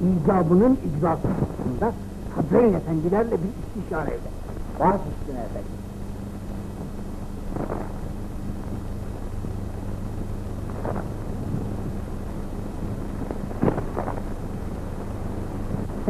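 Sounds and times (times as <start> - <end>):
film soundtrack hiss: 0.0 - 16.0
low hum: 0.0 - 16.0.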